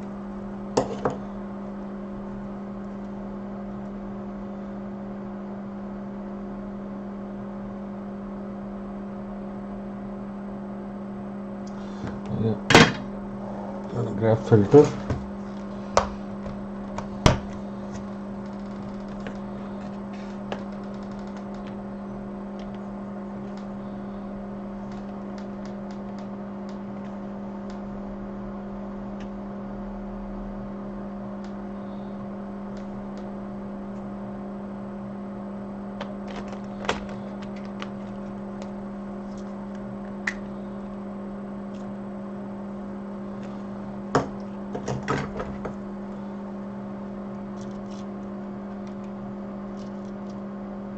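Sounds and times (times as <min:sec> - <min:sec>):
electrical hum: 0:00.0 - 0:50.9.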